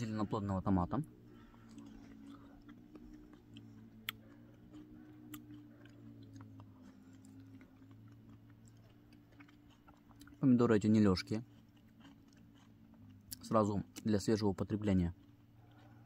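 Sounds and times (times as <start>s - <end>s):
chewing tomato: 0.0s - 16.0s
steady low hum: 0.0s - 16.0s.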